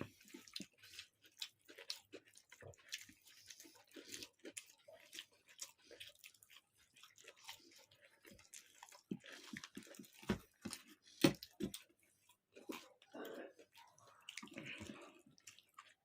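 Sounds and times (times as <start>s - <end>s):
chewing and mouth smacking: 0.0s - 16.0s.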